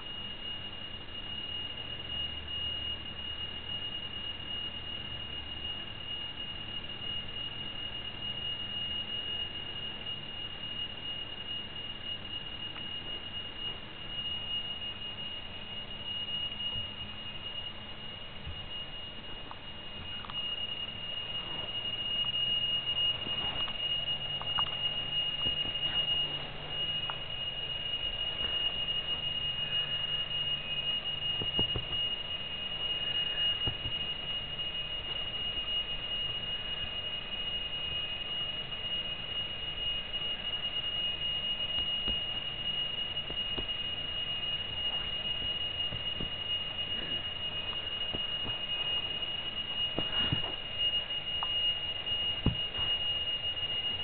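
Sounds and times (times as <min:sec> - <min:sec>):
alarm clock ringing: 0:00.0 - 0:54.0.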